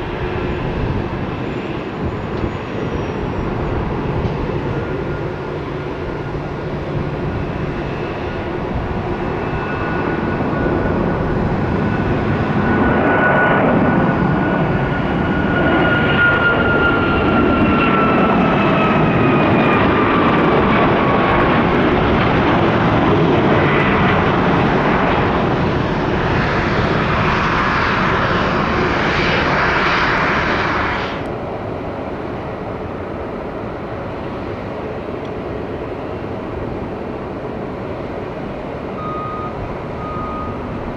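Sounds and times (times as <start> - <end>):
jet engine roar: 0.0 - 40.9
jet engine whine: 0.0 - 40.9.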